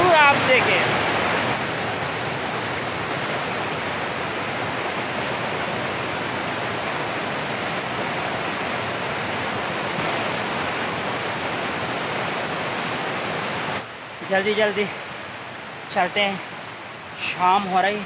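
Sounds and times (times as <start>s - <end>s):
stream rushing over boulders: 0.0s - 18.0s.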